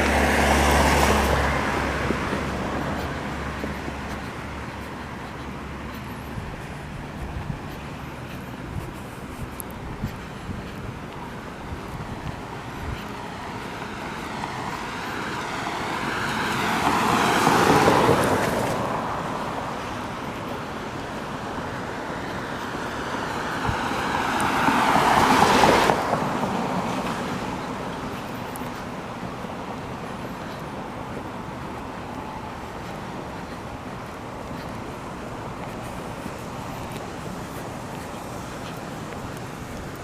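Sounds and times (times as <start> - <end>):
outdoor background noise: 0.0 - 40.0
vehicles passing by: 0.0 - 40.0.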